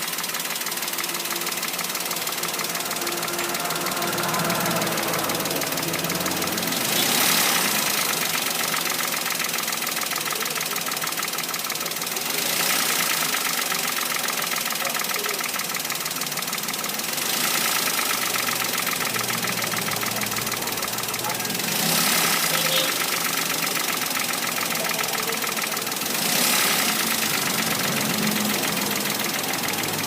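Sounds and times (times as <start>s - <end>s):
car engine with metallic knocking: 0.0s - 30.0s.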